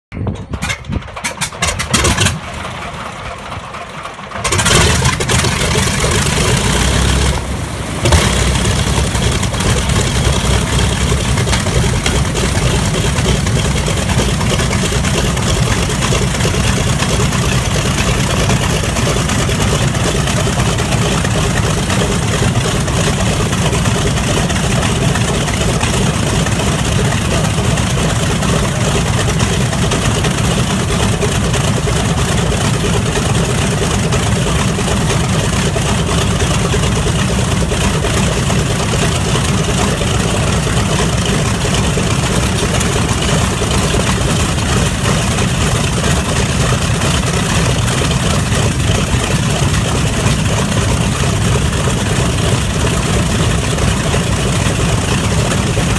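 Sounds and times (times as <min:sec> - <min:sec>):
radial aircraft engine starting: 0:00.2 - 0:55.9.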